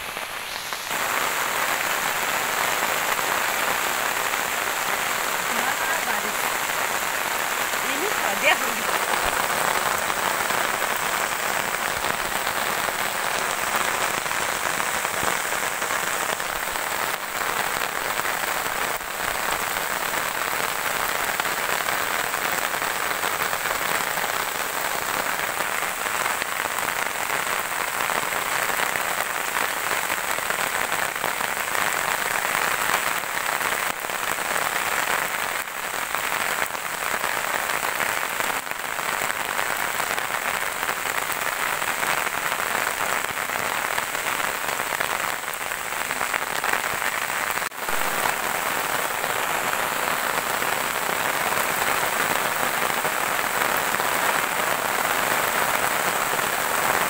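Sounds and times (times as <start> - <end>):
rain on grass and leaves: 0.0 - 57.0.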